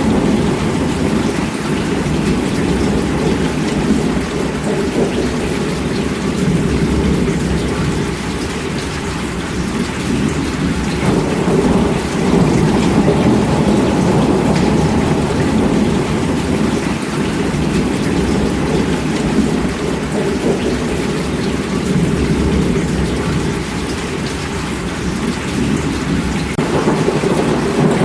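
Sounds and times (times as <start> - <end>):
heavy rain falling: 0.0 - 28.0
thunder rumbling: 0.0 - 28.0.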